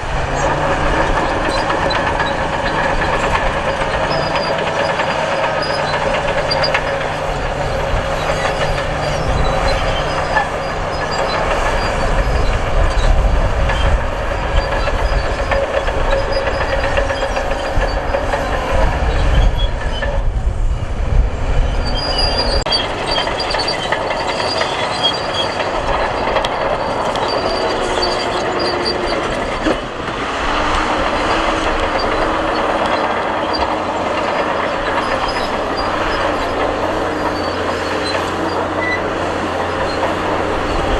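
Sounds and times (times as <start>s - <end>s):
bulldozer engine: 0.0s - 40.9s
bulldozer tracks clattering and squealing: 0.0s - 40.9s.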